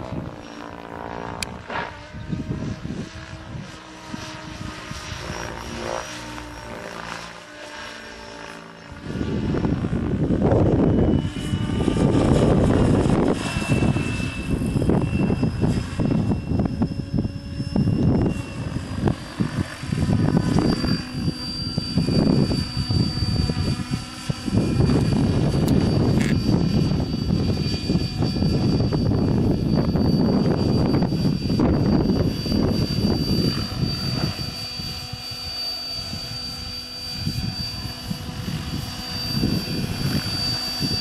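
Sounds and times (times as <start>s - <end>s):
helicopter rotor blades whooshing: 0.0s - 41.0s
thin high whine: 0.0s - 41.0s.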